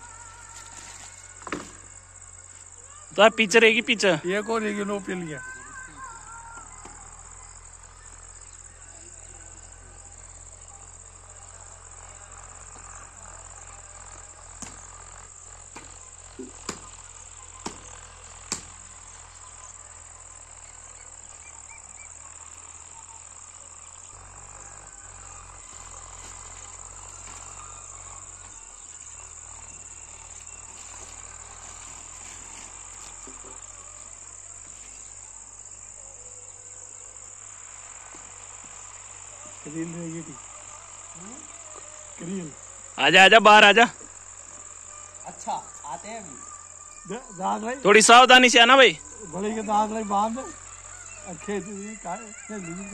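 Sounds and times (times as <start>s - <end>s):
insects shrilling: 0.0s - 52.9s.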